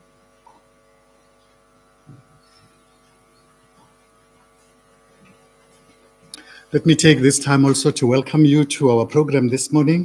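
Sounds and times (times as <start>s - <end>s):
faint electrical mains hum: 0.0s - 10.0s.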